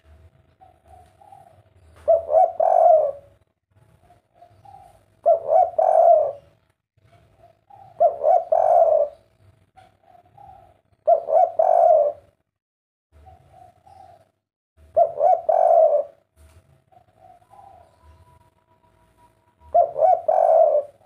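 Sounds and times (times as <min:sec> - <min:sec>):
dove cooing: 0:00.0 - 0:12.4, 0:13.2 - 0:21.0.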